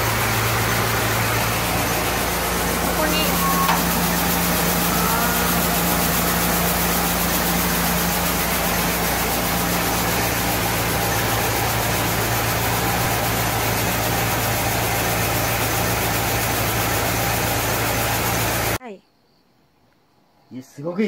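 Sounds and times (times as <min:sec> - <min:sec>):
machine motor humming: 0:00.0 - 0:18.8.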